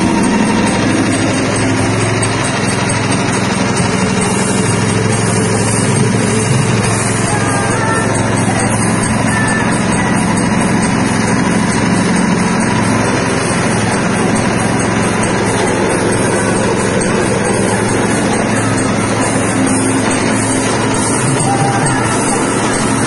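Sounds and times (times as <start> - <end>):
dehulling machine running: 0.0 - 23.0.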